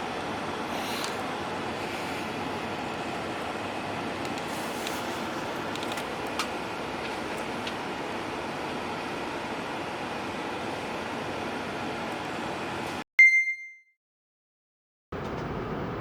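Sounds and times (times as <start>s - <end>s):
bus engine and road noise: 0.0s - 13.0s, 15.2s - 16.0s.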